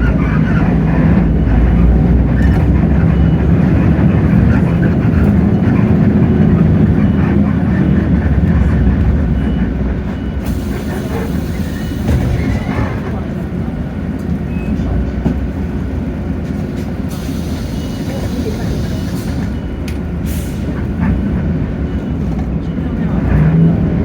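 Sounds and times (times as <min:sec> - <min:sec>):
bus diesel engine rumbling: 0:00.0 - 0:24.0
road noise: 0:00.0 - 0:24.0.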